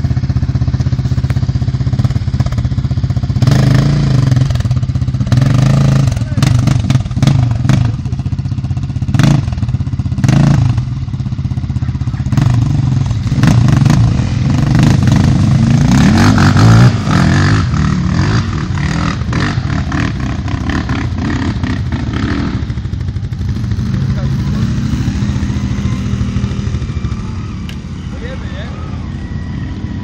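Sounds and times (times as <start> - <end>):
quad bike engines revving: 0.0 - 30.0.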